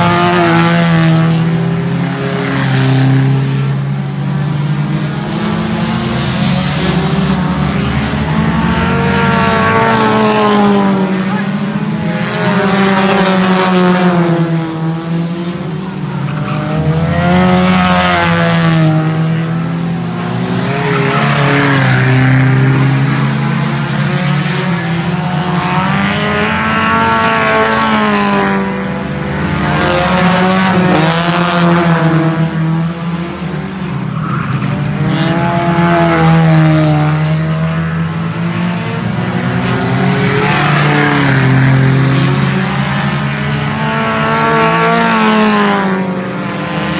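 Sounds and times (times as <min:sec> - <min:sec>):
race car engines: 0:00.0 - 0:46.9.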